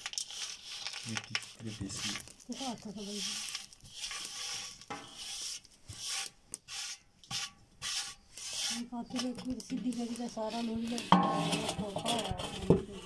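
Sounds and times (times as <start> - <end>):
hands rubbing dry mix in pot: 0.0 - 13.0.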